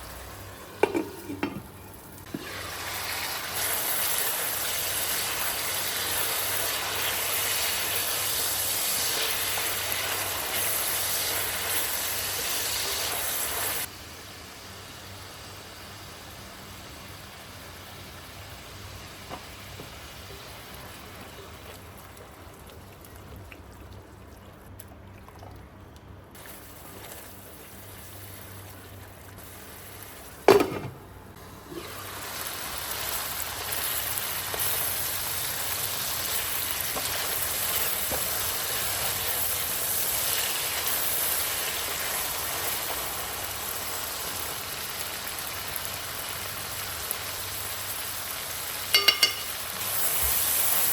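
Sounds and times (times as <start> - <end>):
food sizzling in hot oil: 2.0 - 21.5, 26.4 - 50.9.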